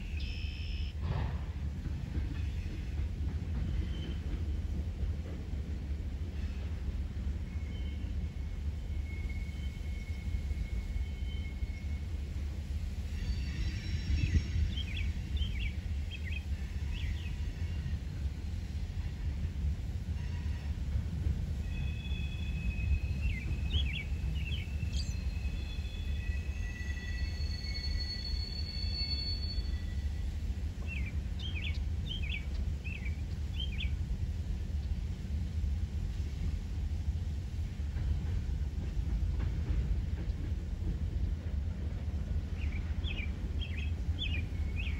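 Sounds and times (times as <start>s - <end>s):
train rumbling by: 0.0s - 44.9s.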